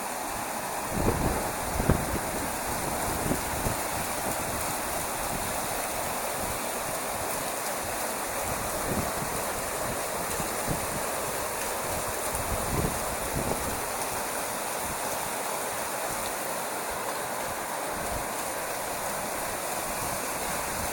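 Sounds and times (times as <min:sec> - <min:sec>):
water rushing and splashing: 0:00.0 - 0:20.9.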